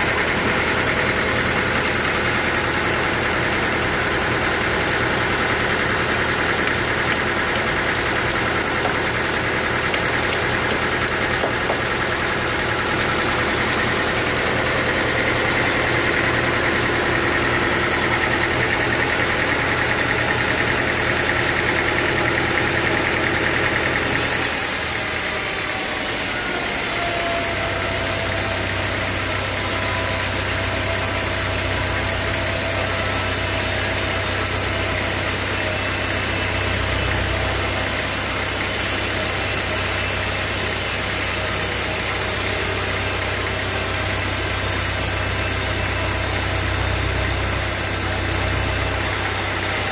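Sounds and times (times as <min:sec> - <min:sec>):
sawmill machinery running: 0:00.0 - 0:49.9.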